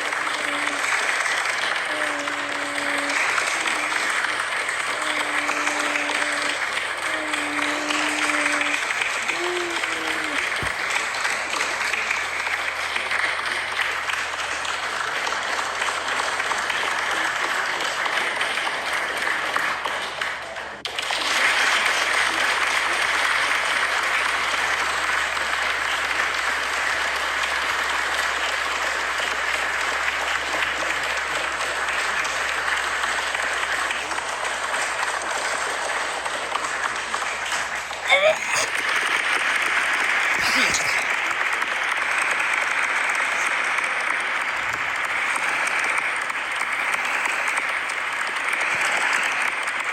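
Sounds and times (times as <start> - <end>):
crowd applause: 0.0 - 49.9.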